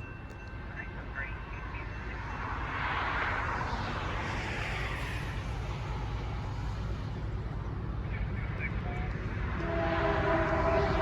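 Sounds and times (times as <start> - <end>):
diesel locomotives rumbling: 0.0 - 11.0.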